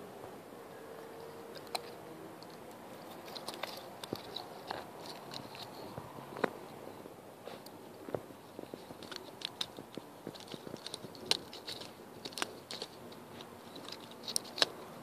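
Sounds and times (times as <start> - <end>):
puppy chewing pine cone: 0.9 - 15.0.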